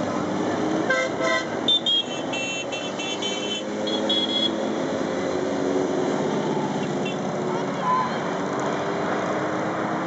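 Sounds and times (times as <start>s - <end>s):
motorcycles passing: 0.0s - 10.0s.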